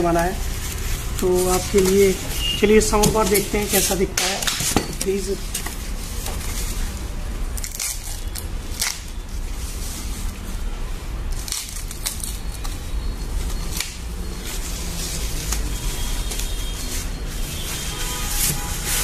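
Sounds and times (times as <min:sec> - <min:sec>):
packing wrap rustling and crinkling: 0:00.0 - 0:19.0.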